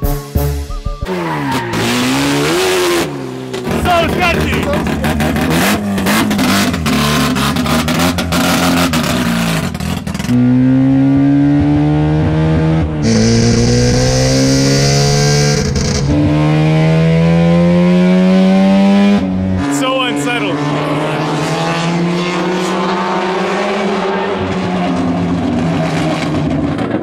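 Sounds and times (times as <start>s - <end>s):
rotary engine revving: 1.1s - 27.0s.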